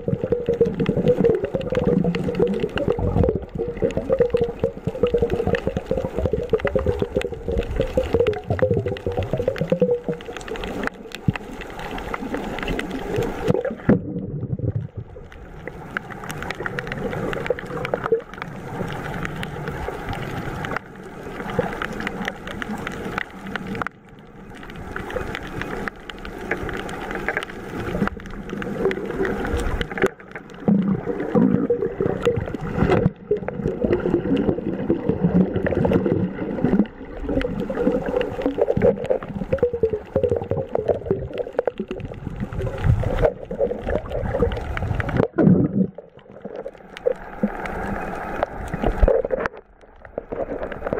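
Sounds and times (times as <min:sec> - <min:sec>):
small underwater clicks: 0:00.0 - 0:50.9
water gurgling underwater: 0:00.0 - 0:50.9.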